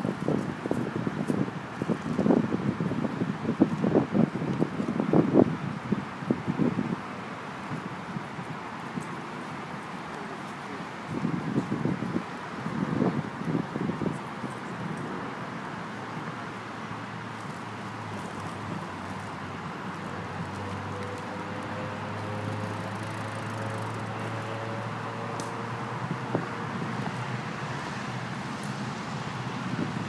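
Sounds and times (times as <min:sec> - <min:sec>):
distant engines hiss and rumble: 0:00.0 - 0:30.0.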